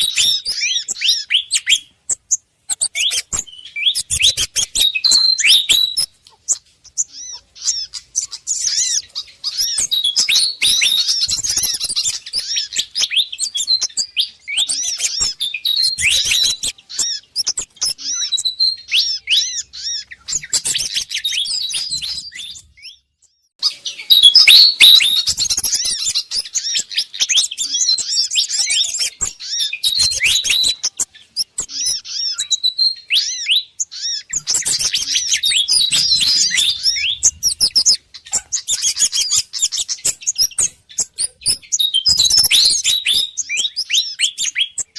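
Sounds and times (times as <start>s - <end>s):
small birds chirping and whistling: 0.0s - 44.9s.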